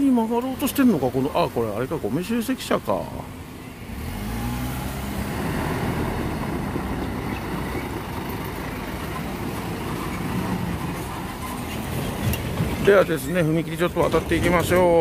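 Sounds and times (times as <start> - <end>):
garbage truck diesel engine: 0.0 - 15.0.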